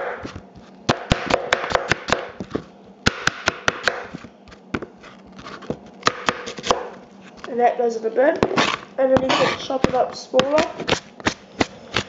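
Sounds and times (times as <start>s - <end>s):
knife chopping on cutting board: 0.0s - 7.0s, 8.4s - 12.0s.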